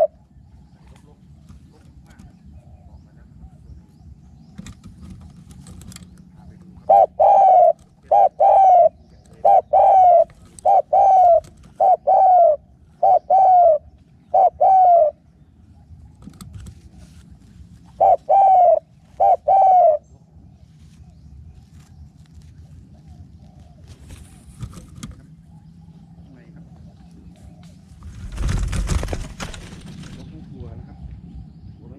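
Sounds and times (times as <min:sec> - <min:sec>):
dove cooing: 0:00.0 - 0:21.7, 0:22.5 - 0:31.5.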